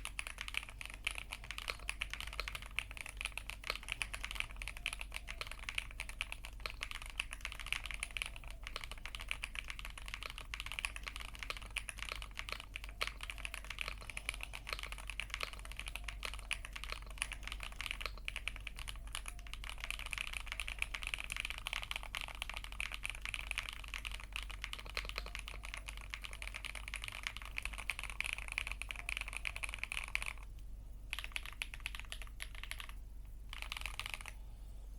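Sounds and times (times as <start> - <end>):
mechanical keyboard typing: 0.0 - 30.5, 31.1 - 34.4.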